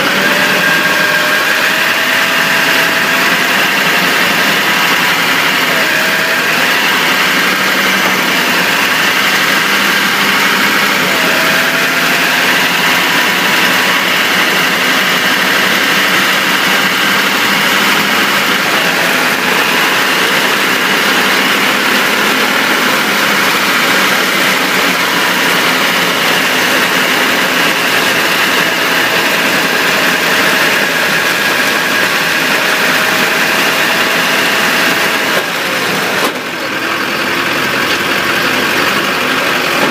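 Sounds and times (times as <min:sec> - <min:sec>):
driveshaft whine: 0:00.0 - 0:39.9
road and wind noise: 0:00.0 - 0:39.9.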